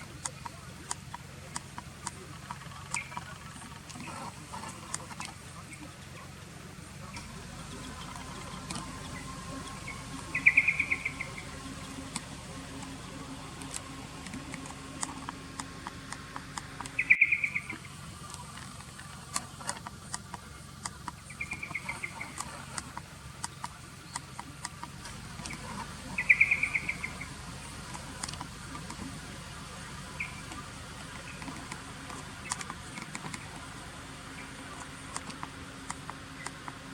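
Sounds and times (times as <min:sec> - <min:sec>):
bird chattering calls: 0:00.0 - 0:06.1, 0:06.9 - 0:36.9
faint clicks: 0:00.0 - 0:06.2, 0:07.0 - 0:29.2, 0:30.1 - 0:36.9
faint steady hum: 0:00.0 - 0:36.9.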